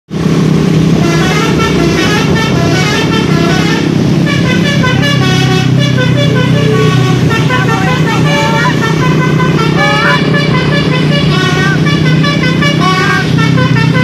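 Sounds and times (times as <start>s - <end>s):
low engine drone: 0.1s - 14.0s
multi-tone bus horn melody: 0.9s - 14.0s.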